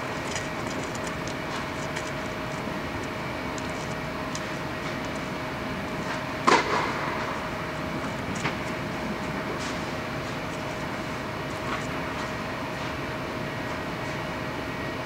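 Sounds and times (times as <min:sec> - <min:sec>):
indoor hall hum: 0:00.0 - 0:15.0.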